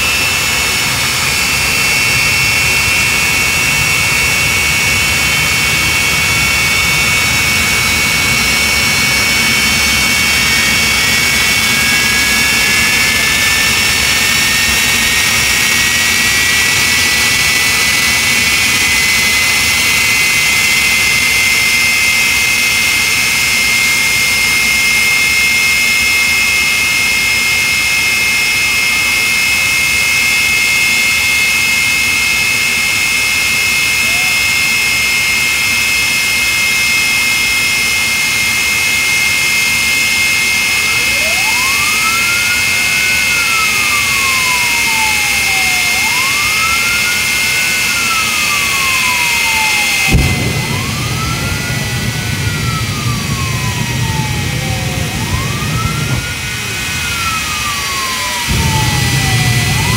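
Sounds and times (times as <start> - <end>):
jet engine running with high whine: 0.0 - 59.9
rising whine: 0.0 - 59.9.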